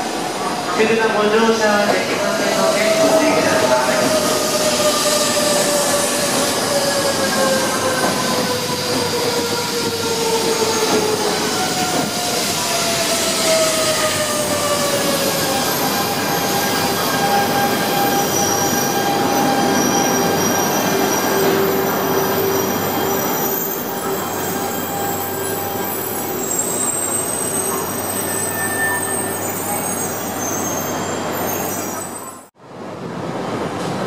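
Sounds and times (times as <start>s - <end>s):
train wheels squealing: 2.8s - 32.5s.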